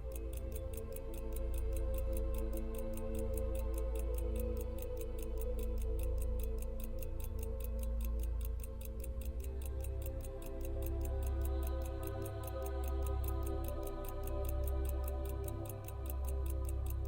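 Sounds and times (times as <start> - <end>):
background music with held chords: 0.0 - 17.0
pocket watch ticking: 0.0 - 17.0.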